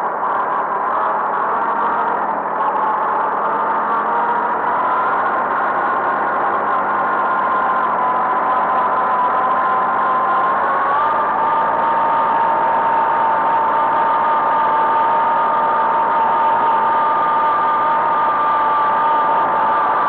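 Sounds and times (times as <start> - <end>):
steady high whine: 0.0 - 20.0
tractor diesel engine running: 0.0 - 20.0.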